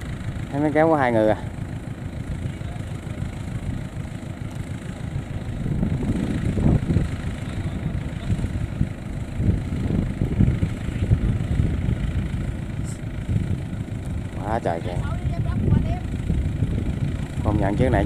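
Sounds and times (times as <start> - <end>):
tractor engine rumbling: 0.0 - 18.0.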